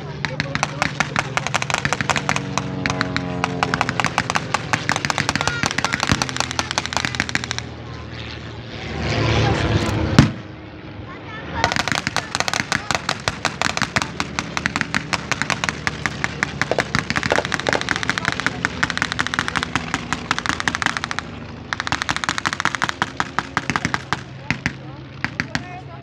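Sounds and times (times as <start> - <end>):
aircraft engines droning: 0.0 - 26.0
machine-gun fire: 0.2 - 7.8, 10.1 - 10.4, 11.6 - 26.0.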